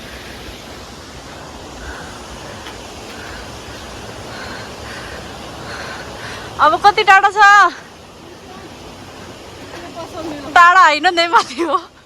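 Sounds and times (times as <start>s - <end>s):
steady rushing outdoor noise: 0.0s - 12.0s.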